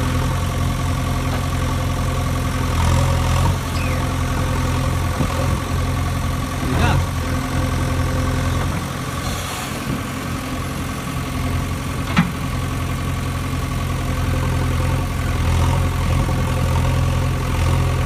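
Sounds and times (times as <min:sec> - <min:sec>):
low engine-like idling hum: 0:00.0 - 0:15.4.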